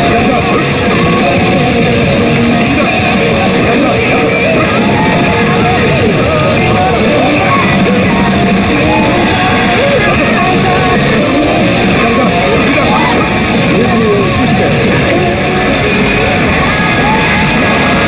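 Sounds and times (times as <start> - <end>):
rock song with singer: 0.0 - 18.0.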